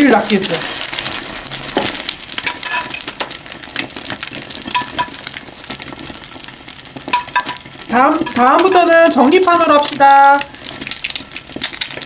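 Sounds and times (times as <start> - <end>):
bread frying in butter sizzling: 0.0 - 12.0.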